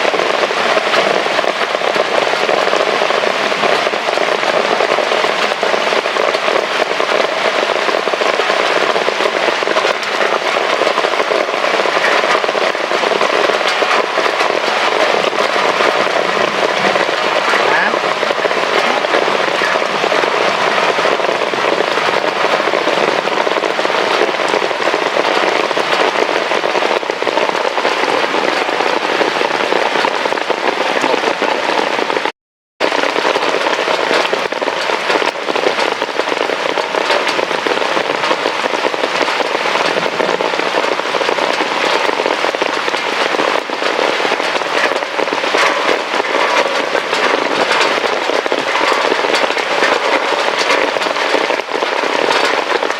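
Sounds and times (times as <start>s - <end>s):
heavy rain pattering: 0.0s - 52.9s.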